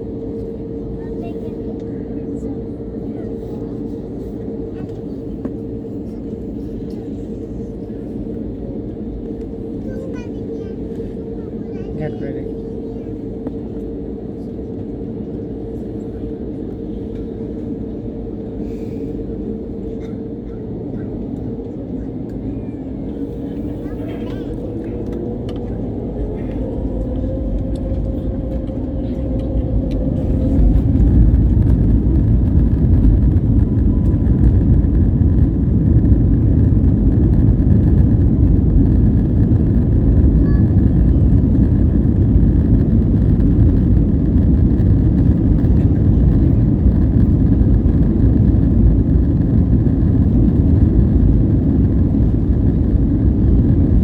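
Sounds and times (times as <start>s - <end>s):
jet engines spooling up: 0.0s - 54.0s
takeoff roll rumble: 0.0s - 54.0s.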